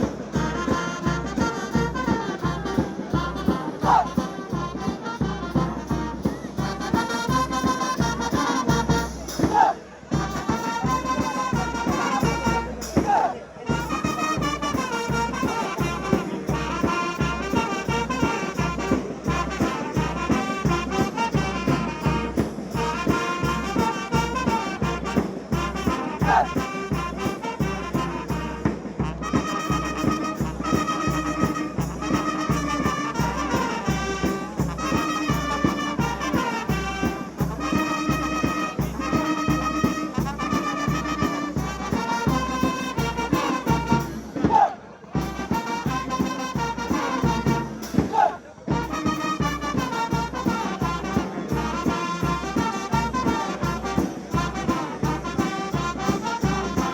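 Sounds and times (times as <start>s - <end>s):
brass band music: 0.0s - 56.9s
steady drum beat: 0.0s - 56.9s.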